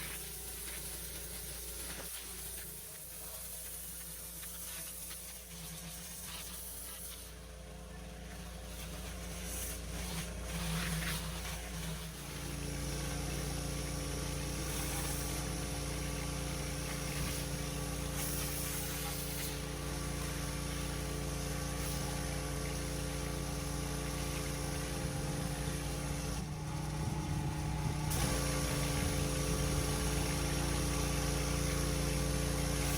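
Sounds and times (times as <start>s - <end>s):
pressure washer engine running: 0.0s - 32.9s
water spray hiss: 0.0s - 32.9s.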